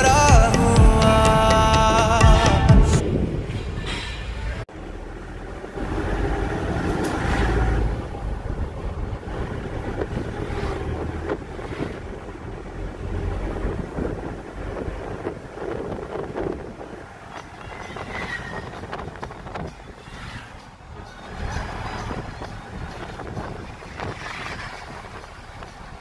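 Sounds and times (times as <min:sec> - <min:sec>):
vehicle rumble: 0:00.0 - 0:26.0
wind buffeting microphone: 0:02.8 - 0:04.6, 0:05.7 - 0:26.0.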